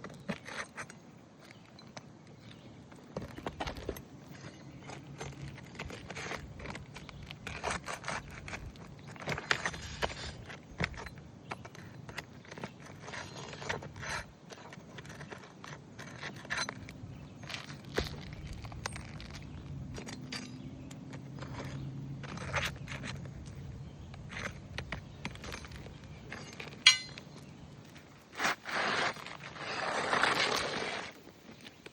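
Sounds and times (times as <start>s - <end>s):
scraping and clicking on shingles: 0.0s - 31.9s.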